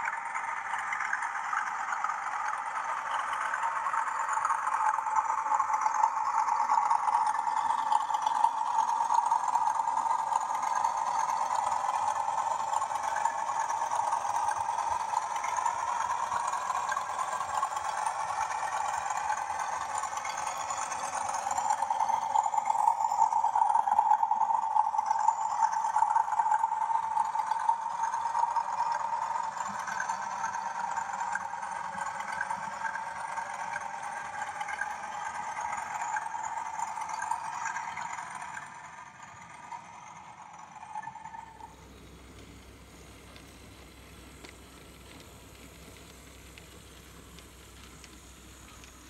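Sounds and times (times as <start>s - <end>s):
model locomotive high whine: 0.0s - 49.0s.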